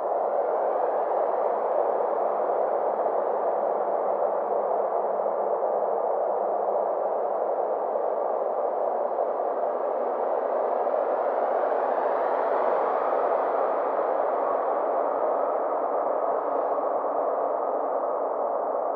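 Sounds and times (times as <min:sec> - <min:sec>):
filtered noise drone: 0:00.0 - 0:18.9.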